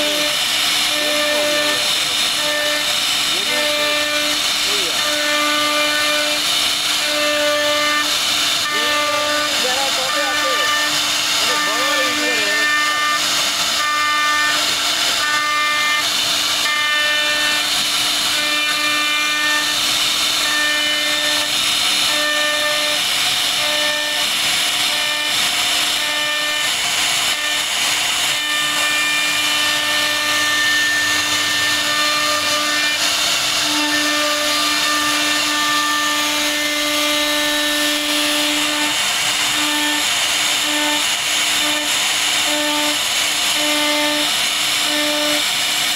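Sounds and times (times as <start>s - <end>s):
bit cutting wood hiss: 0.0s - 45.9s
router spindle high whine: 0.0s - 45.9s.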